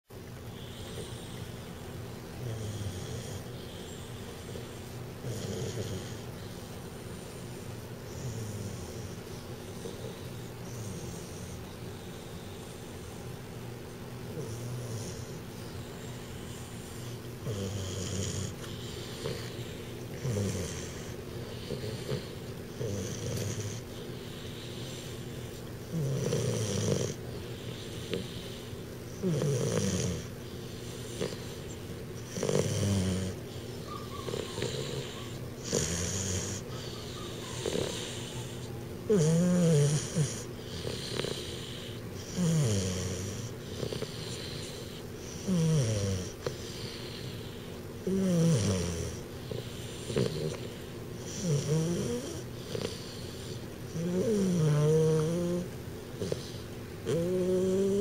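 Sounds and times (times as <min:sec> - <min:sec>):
puppy snoring: 0:00.2 - 0:58.0.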